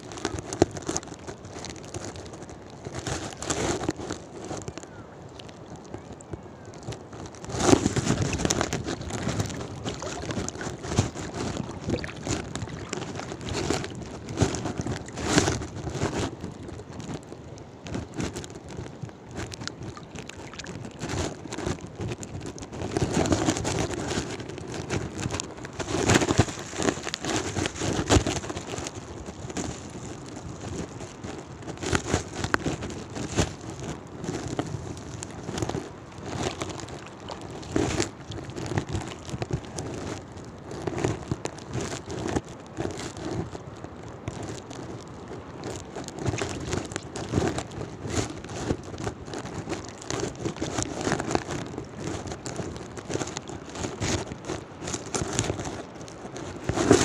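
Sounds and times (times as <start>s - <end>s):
crackles and knocks: 0.0s - 57.0s
wind rumbling on microphone: 0.0s - 57.0s.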